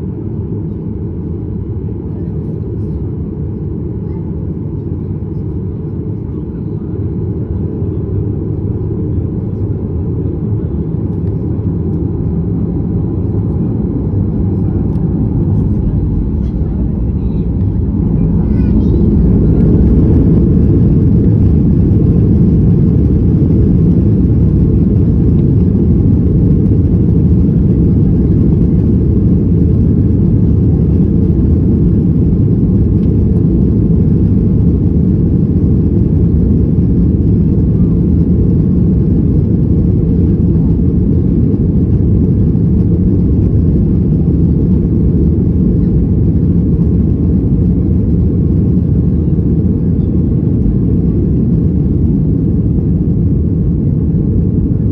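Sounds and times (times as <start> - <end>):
jet engines and airflow rumble: 0.0 - 54.9.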